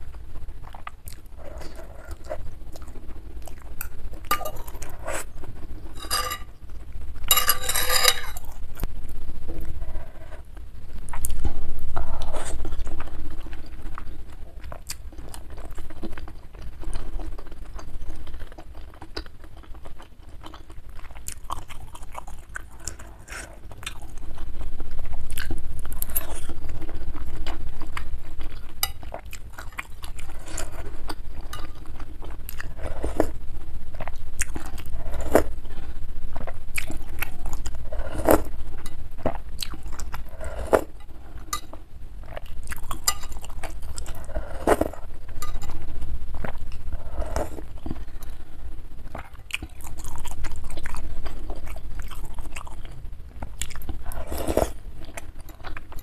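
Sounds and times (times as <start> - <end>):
chewing and wet mouth sounds: 0.0 - 6.3, 11.0 - 48.4, 49.0 - 56.0.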